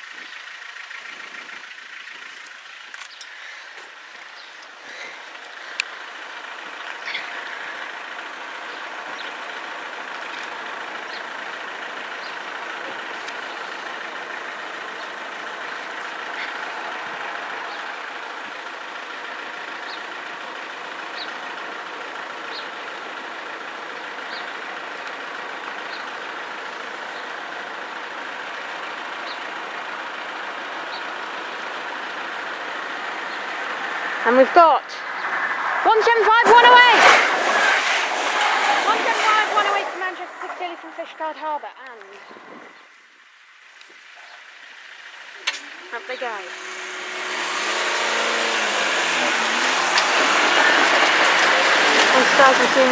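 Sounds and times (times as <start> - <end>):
road vehicles idling: 0.0 - 52.9.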